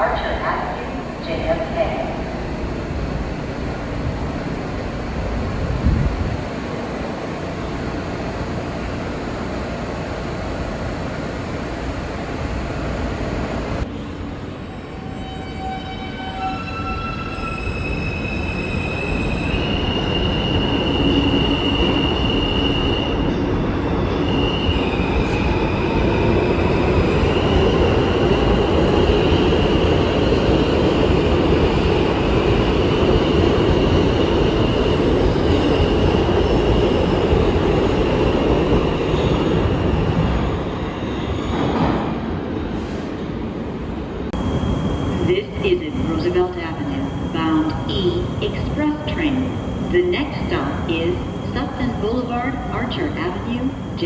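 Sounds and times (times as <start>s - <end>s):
train wheels rumbling on track: 0.0s - 15.2s, 17.0s - 45.3s.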